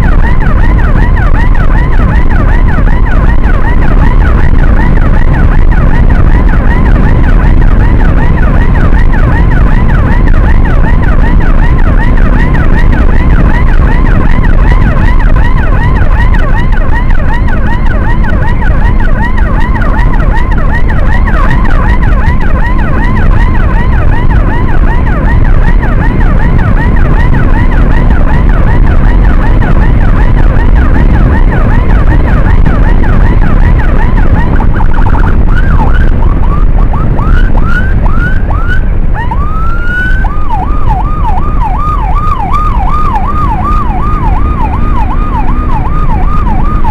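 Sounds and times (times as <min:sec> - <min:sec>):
electronic siren yelping: 0:00.0 - 0:46.9
wind and road noise rumble: 0:00.0 - 0:46.9.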